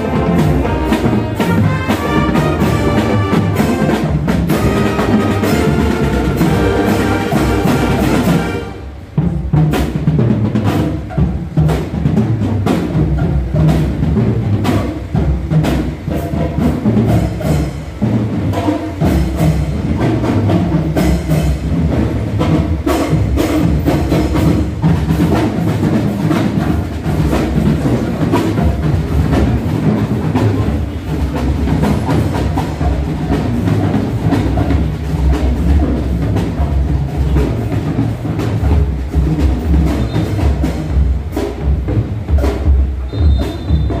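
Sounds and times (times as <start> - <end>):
drums keeping a steady beat: 0.0 - 44.0
marching band brass: 0.0 - 44.0.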